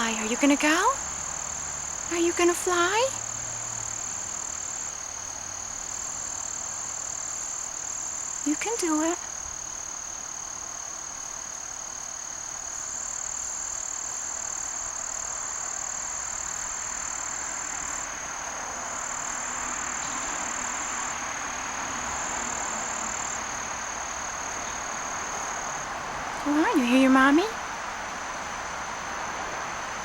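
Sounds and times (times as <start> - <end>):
high-pitched insect trill: 0.0 - 30.0
soft rushing background noise: 0.0 - 30.0.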